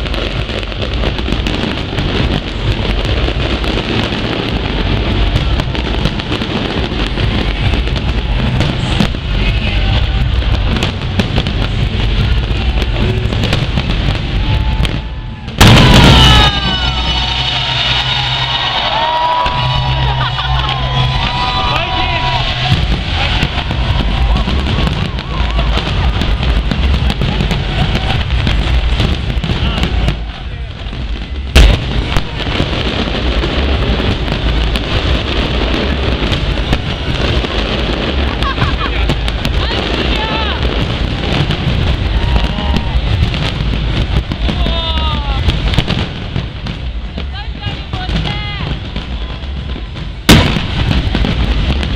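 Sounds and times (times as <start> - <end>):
fireworks crackling and popping: 0.0 - 51.9
loud firework burst: 0.0 - 51.9
low rumble: 0.0 - 51.9.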